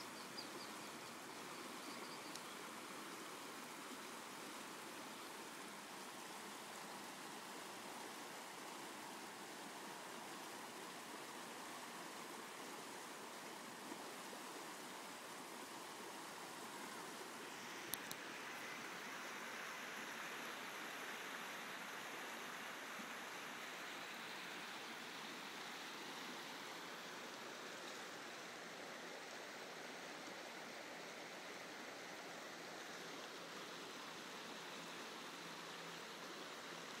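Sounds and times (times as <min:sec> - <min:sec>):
creek water flowing: 0:00.0 - 0:37.0.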